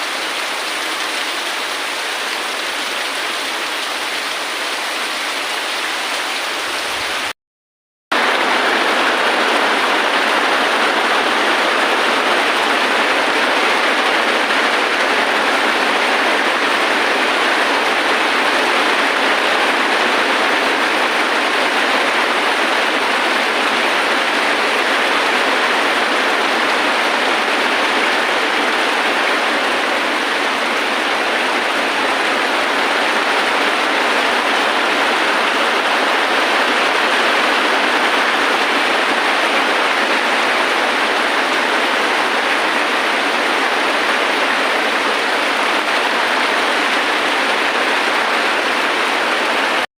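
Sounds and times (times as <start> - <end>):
heavy rainfall: 0.0 - 7.4, 8.1 - 49.9.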